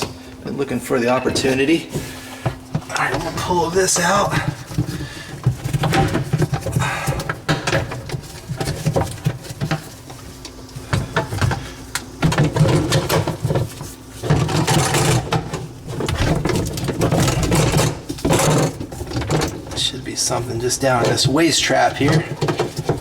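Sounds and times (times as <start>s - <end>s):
plastic parts clicking and rattling: 2.8s - 23.0s.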